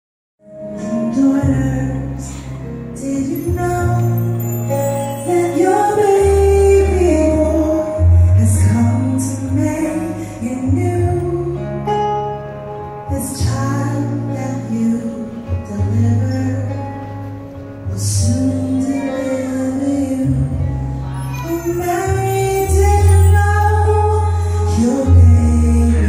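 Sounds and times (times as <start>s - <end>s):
bass guitar notes: 0.4s - 26.0s
woman singing a slow ballad: 0.5s - 26.0s.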